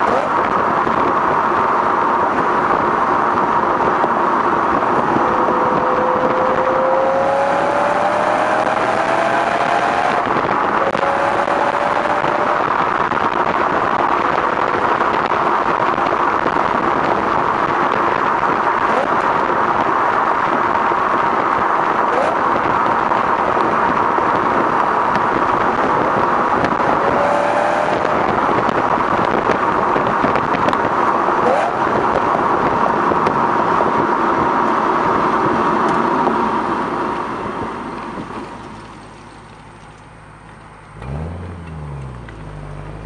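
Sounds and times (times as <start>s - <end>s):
wind noise: 0.0s - 39.8s
car exhaust at steady cruise: 0.0s - 43.0s
road noise: 0.0s - 43.0s.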